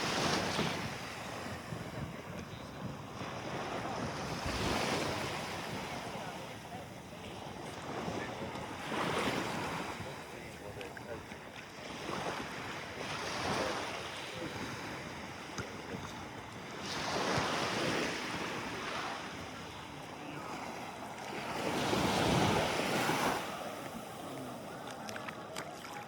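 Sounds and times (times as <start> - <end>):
sea waves washing on beach: 0.0 - 26.0
wind on microphone: 0.0 - 26.0.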